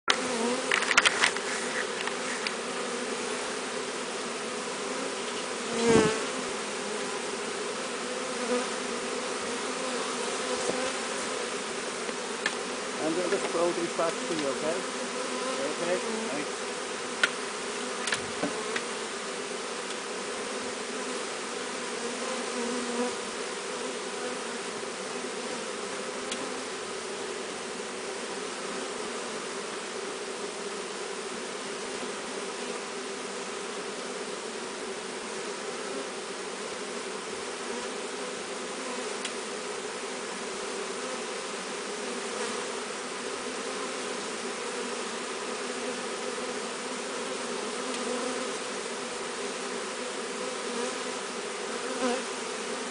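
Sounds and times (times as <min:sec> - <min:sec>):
bee swarm buzzing: 0:00.1 - 0:52.9.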